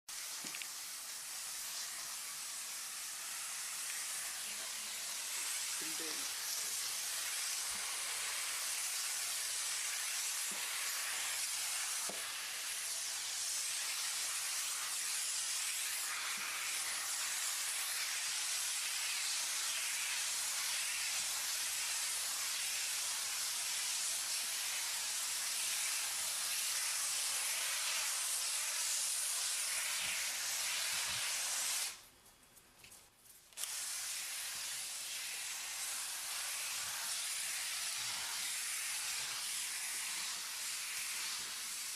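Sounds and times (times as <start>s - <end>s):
steam cleaner hissing: 0.1s - 32.1s, 33.6s - 41.9s.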